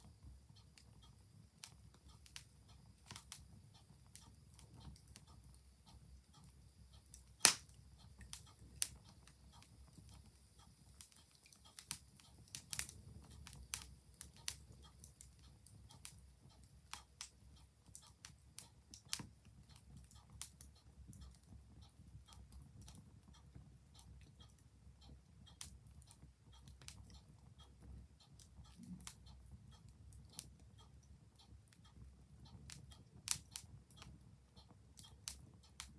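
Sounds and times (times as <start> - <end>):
clock ticking: 0.0 - 35.9
wood fire crackling: 0.0 - 35.9.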